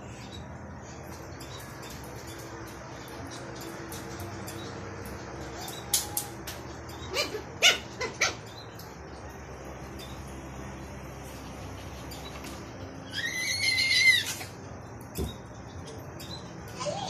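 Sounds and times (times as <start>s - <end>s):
puppies yipping and squeaking: 0.0s - 17.0s.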